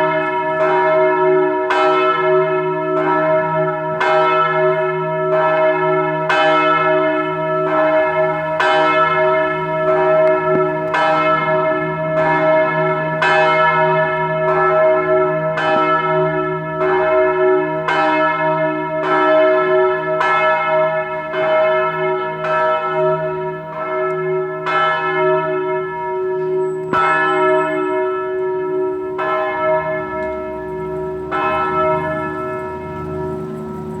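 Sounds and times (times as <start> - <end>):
church bell ringing: 0.0 - 34.0.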